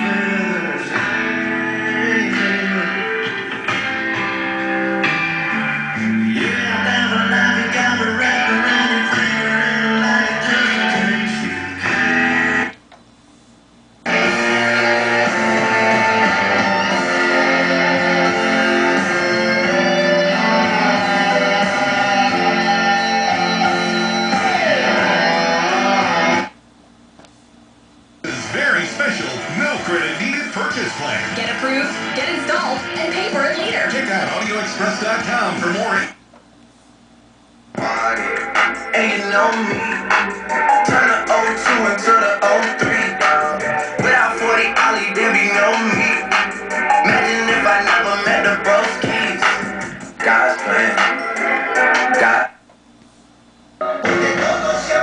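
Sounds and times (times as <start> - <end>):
guitar music over speakers: 0.0 - 12.8, 14.0 - 26.6, 28.3 - 36.0, 37.8 - 52.6, 53.8 - 55.0.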